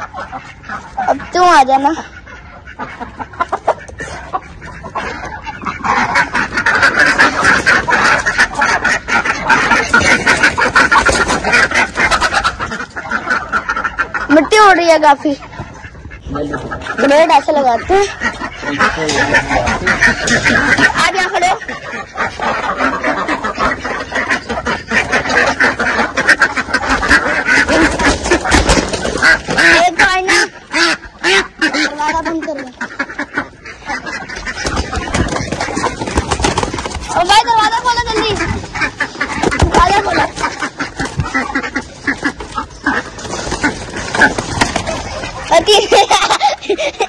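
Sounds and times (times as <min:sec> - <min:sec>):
chickens squawking: 0:00.0 - 0:47.0
ducks quacking: 0:00.0 - 0:47.0
wings flapping: 0:00.0 - 0:47.0.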